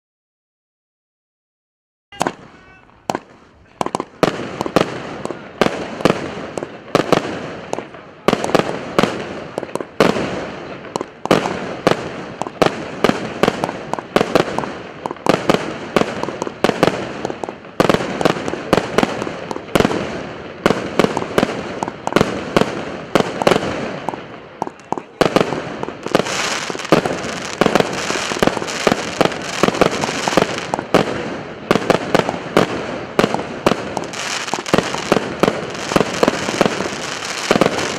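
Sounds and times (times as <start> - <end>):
fireworks bangs: 2.1 - 37.9
dense steady hiss: 2.2 - 37.9.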